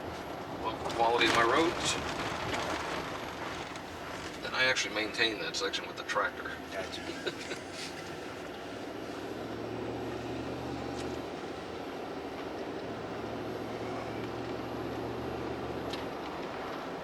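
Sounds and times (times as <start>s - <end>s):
car engine drone from cabin: 0.0s - 17.0s
tyre and road noise: 0.0s - 17.0s.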